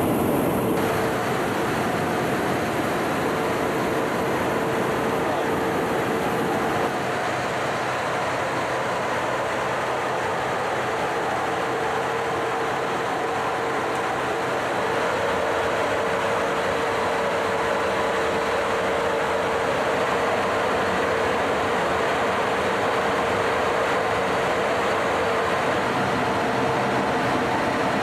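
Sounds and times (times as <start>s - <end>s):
constant hum: 0.0s - 28.0s
rush of air and engine noise: 0.0s - 28.0s.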